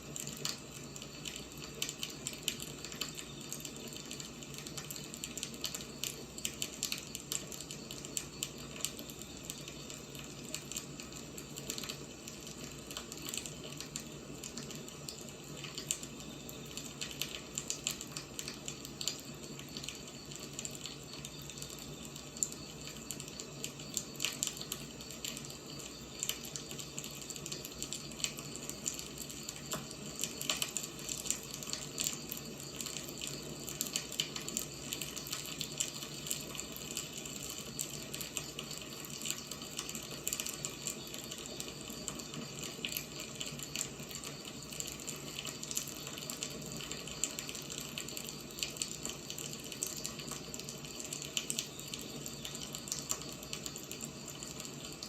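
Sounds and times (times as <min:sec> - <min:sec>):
wood fire crackling and hissing: 0:00.0 - 0:55.0.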